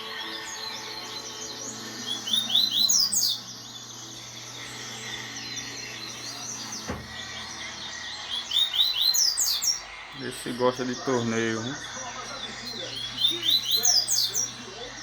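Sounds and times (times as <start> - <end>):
bird whistled chirps: 0.0 - 15.0
faint bird chirping: 0.0 - 15.0.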